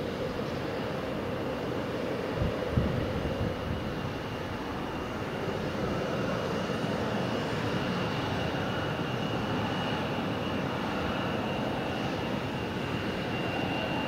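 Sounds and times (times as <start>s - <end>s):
airliner engines running: 0.0s - 14.0s.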